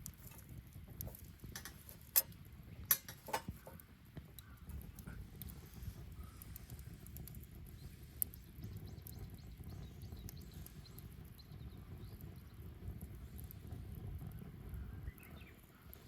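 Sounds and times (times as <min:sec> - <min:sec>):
bonfire crackling and popping: 0:00.0 - 0:16.0
low fire rumble: 0:00.0 - 0:16.0.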